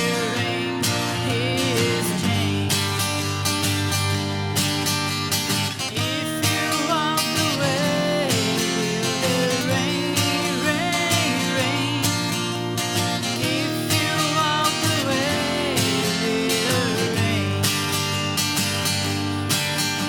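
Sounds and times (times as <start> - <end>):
strummed acoustic guitar: 0.0 - 20.0.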